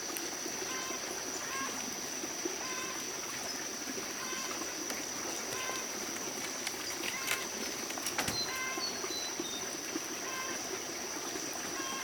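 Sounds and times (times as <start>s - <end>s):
water running and trickling: 0.0s - 12.0s.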